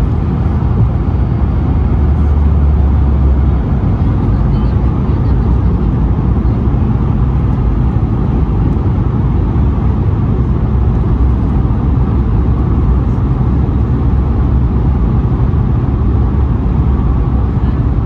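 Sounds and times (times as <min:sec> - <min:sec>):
aircraft cabin engine noise: 0:00.0 - 0:18.0.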